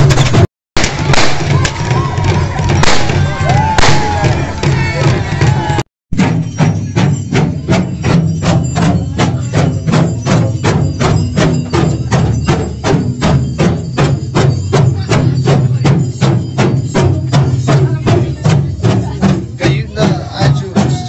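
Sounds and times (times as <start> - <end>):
barrel drums beaten with sticks: 0.0 - 21.0.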